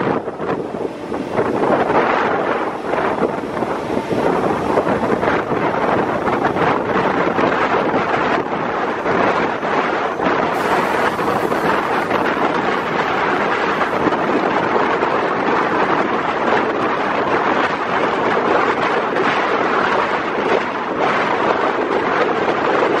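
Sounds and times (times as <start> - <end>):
train wheels on rails: 0.0 - 21.4
wind buffeting microphone: 0.0 - 23.0
wind rushing: 0.0 - 23.0.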